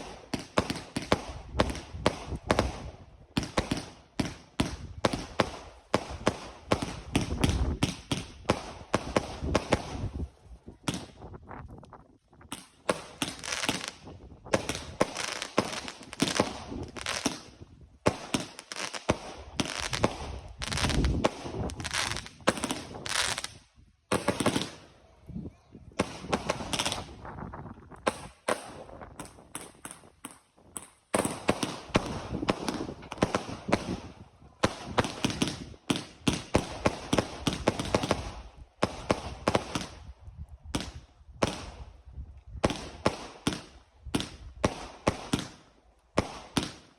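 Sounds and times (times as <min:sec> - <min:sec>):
fireworks bangs and crackles: 0:00.0 - 0:25.1, 0:25.8 - 0:46.9.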